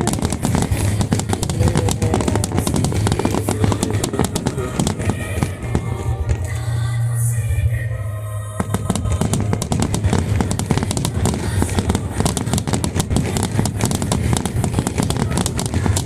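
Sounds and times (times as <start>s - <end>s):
fireworks crackling and popping: 0.0s - 7.3s, 8.5s - 16.0s
heavy low rumble: 0.0s - 16.0s.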